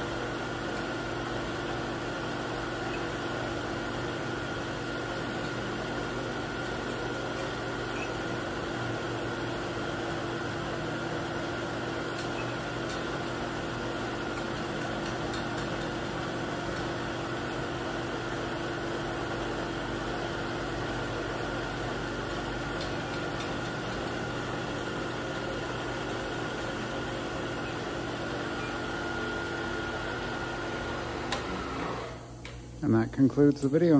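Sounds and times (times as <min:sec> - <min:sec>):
milling machine humming and whining: 0:00.0 - 0:32.4.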